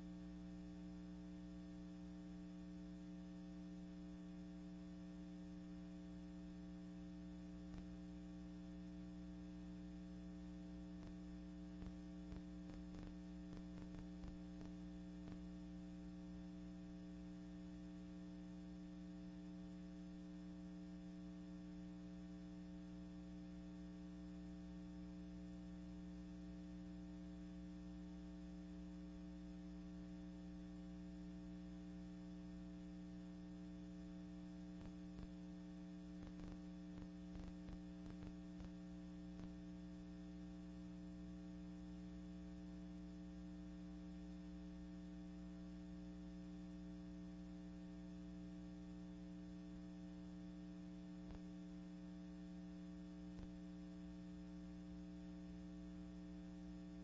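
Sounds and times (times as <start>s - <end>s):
faint electrical hum: 0.0s - 57.0s.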